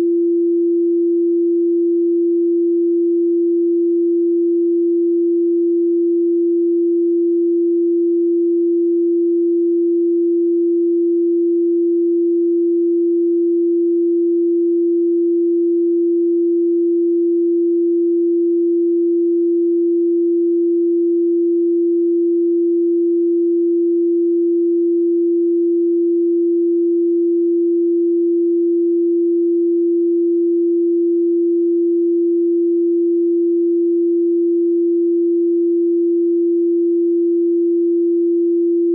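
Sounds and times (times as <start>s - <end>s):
steady sine tone: 0.0s - 38.9s.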